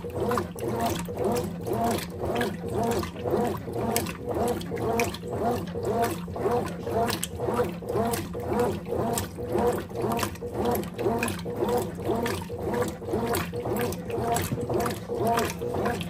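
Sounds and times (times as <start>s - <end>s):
washing machine motor hum: 0.0s - 16.0s
water sloshing: 0.0s - 16.0s.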